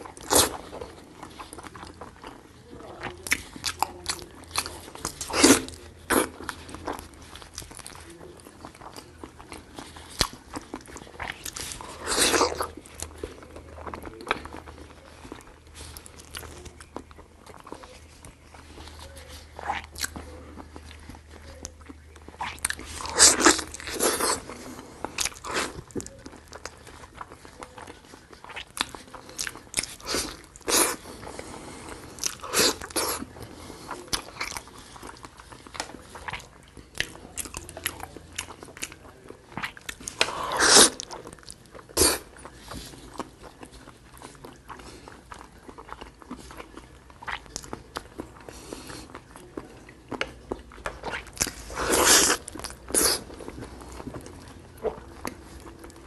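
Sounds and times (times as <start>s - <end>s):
wet biting and chewing: 0.0s - 56.0s.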